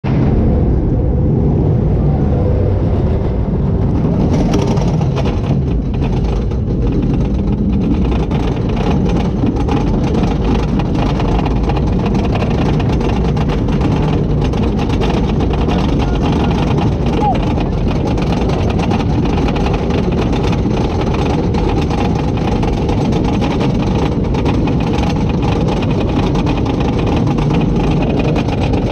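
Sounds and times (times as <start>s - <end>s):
roller coaster rumbling and rattling: 0.0s - 28.9s.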